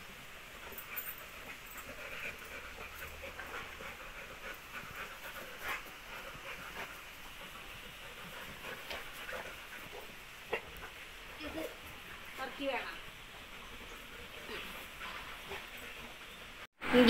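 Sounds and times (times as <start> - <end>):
dogs panting softly: 0.4 - 16.7.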